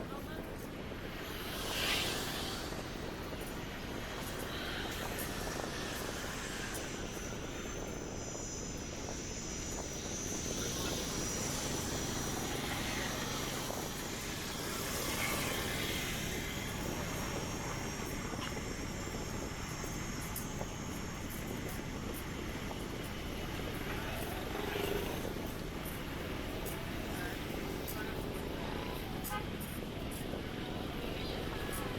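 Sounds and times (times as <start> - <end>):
wind on microphone: 0.0 - 31.9.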